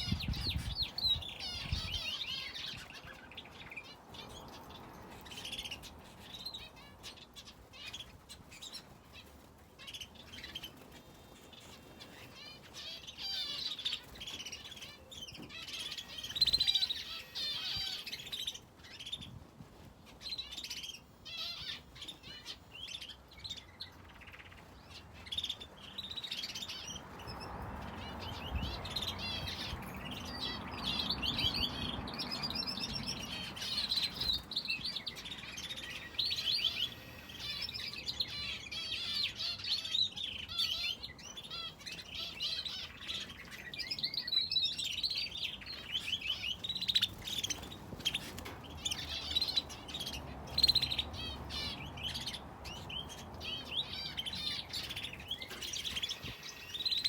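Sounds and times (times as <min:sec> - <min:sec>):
finches and canary chirping: 0:00.0 - 0:57.0.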